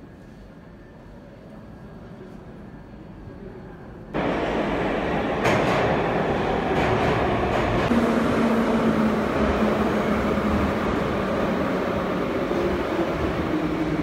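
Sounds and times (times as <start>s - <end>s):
metro train rumbling: 0.4s - 14.0s.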